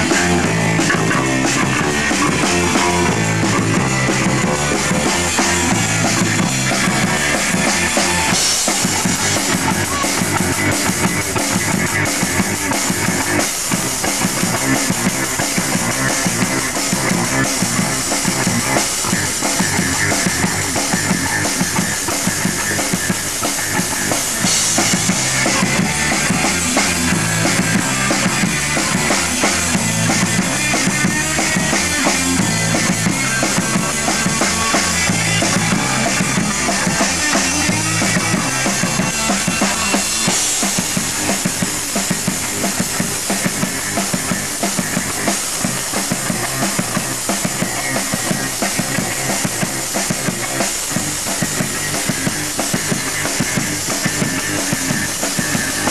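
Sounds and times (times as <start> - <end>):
bass guitar: 0.0 - 55.9
drum kit beat: 0.0 - 55.9
electric guitar: 0.0 - 55.9.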